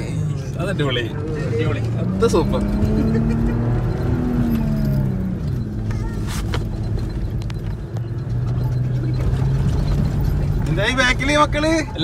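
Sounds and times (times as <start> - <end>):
car engine heard from inside: 0.0 - 12.0.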